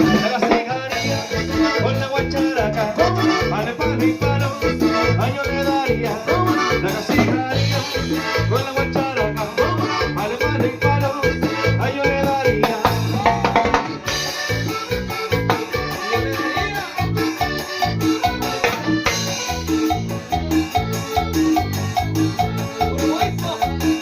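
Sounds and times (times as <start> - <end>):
band playing latin dance music: 0.0 - 24.0.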